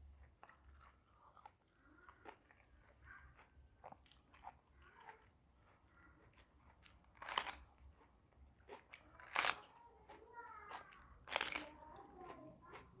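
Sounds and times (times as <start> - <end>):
person chewing food: 0.1 - 13.0.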